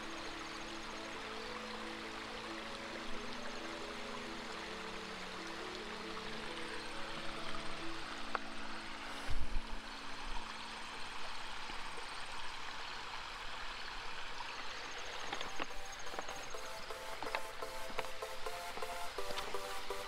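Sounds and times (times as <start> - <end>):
waterfall running: 0.0 - 20.0.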